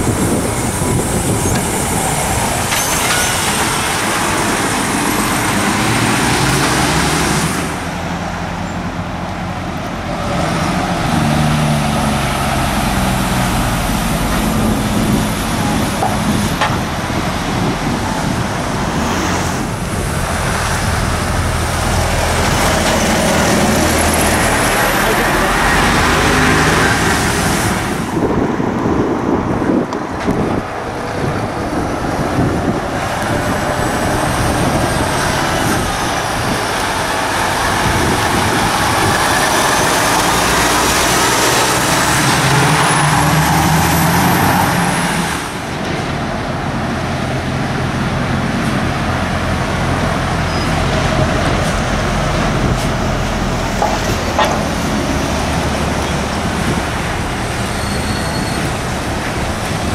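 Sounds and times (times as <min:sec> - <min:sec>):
high whine of passing lorry: 0:00.0 - 0:59.9
lorries driving past: 0:00.0 - 0:59.9.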